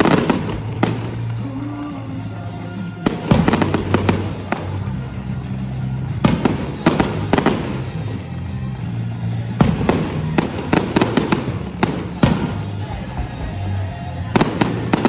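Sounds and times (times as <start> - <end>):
fireworks exploding: 0.0 - 15.0
steady music: 0.0 - 15.0.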